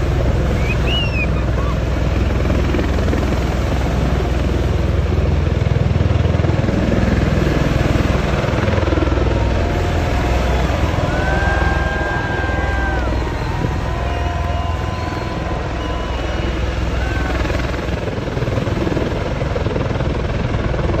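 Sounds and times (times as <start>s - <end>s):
aircraft rotors low rumble: 0.0s - 21.0s.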